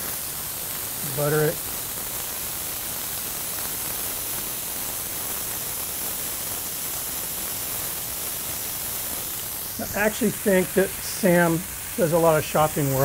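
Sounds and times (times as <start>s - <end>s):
burger patties sizzling on griddle: 0.0s - 13.0s.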